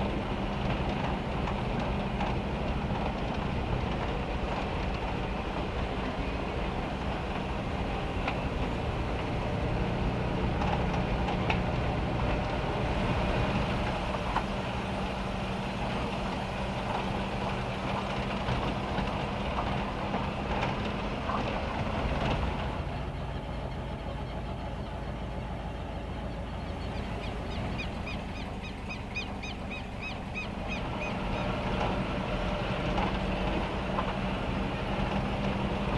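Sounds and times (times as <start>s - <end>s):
vehicle engine humming: 0.0s - 35.9s.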